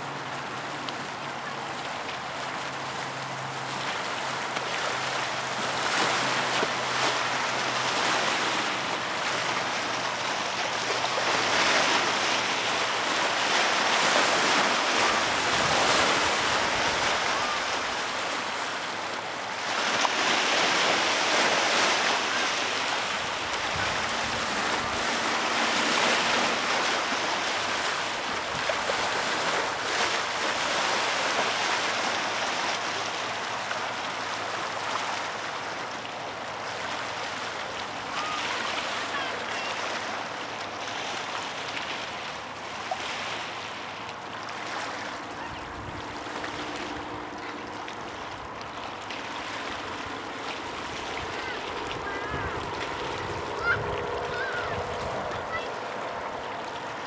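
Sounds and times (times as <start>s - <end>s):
river water washing in swells: 0.0s - 57.0s.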